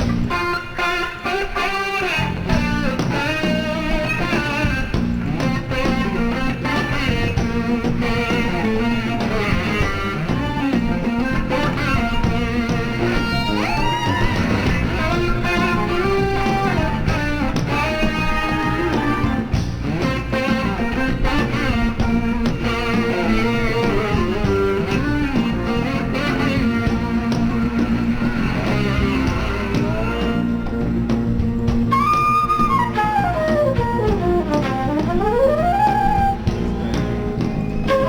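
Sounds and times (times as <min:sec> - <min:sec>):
bass guitar: 0:00.0 - 0:38.0
electric slide guitar: 0:00.0 - 0:38.0.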